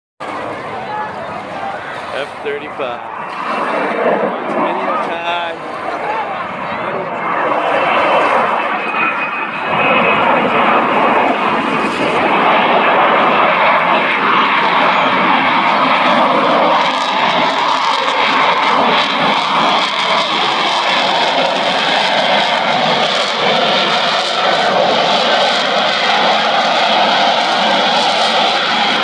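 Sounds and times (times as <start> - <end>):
jet engine rush: 0.2 - 29.0.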